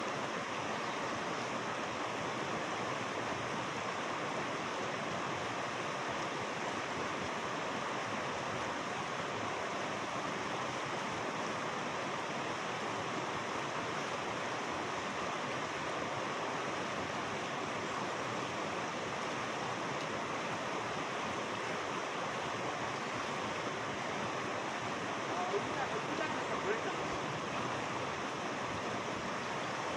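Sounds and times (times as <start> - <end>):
water rushing in a mountain stream: 0.0 - 29.9.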